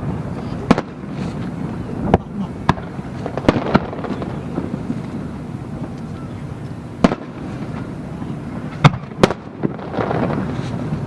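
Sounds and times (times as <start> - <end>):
fireworks bangs: 0.0 - 11.0
low rumble of bursts: 0.0 - 11.0.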